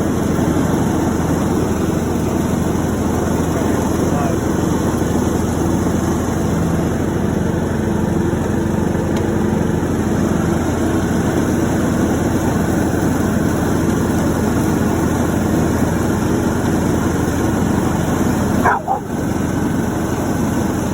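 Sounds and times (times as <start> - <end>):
lawn tractor engine running: 0.0 - 20.9.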